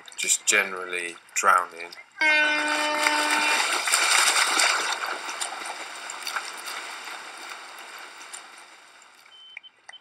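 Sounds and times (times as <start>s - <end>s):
swimmers splashing water: 0.0s - 9.5s.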